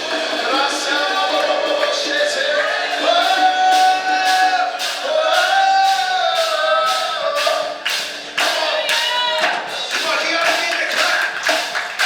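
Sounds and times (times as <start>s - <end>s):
band playing steady beat: 0.0s - 12.0s.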